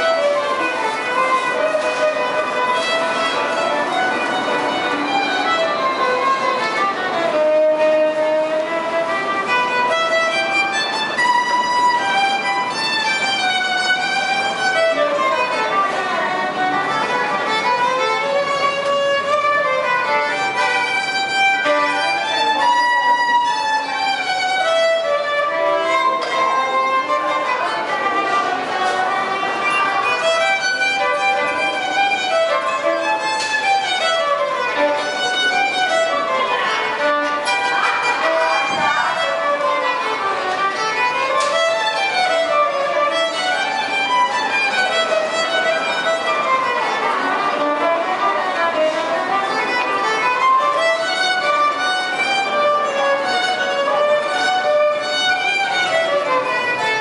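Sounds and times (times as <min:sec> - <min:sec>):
solo violin melody: 0:00.0 - 0:57.0.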